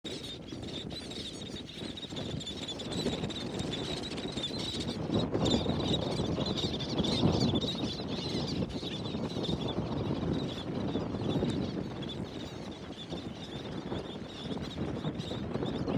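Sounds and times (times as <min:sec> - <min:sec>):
wind buffeting microphone: 0:00.1 - 0:15.9.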